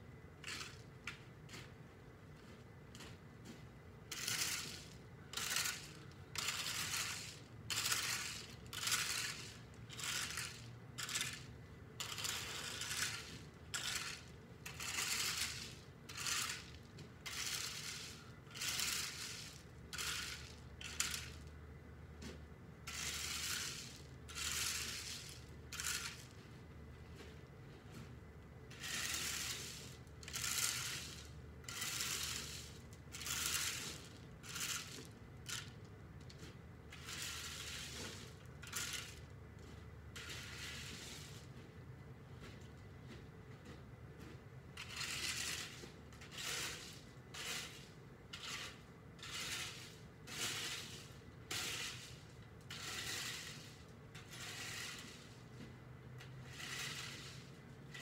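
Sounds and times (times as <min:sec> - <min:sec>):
rake scraping gravel: 0:00.0 - 0:21.5, 0:22.2 - 0:58.0.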